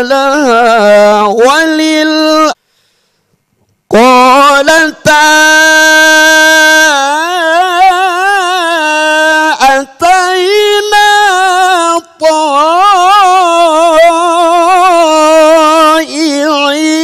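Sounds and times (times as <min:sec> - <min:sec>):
man reciting melodically: 0:00.0 - 0:02.6, 0:03.9 - 0:17.0.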